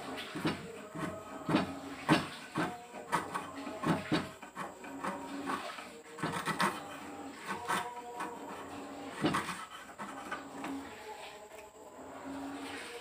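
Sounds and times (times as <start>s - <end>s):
chisel scraping wood: 0.0s - 11.4s.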